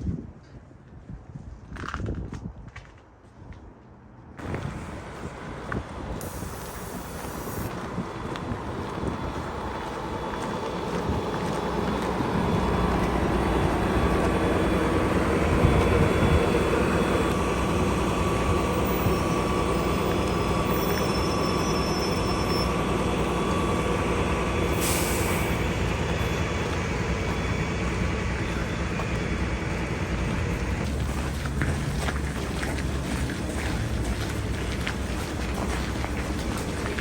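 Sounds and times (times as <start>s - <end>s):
vehicle rumbling in motion: 0.0s - 37.0s.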